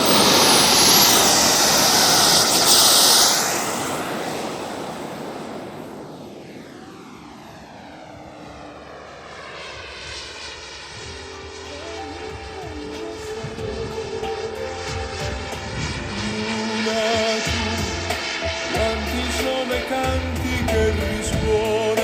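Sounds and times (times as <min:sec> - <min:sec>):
jet flying past: 0:00.0 - 0:22.0.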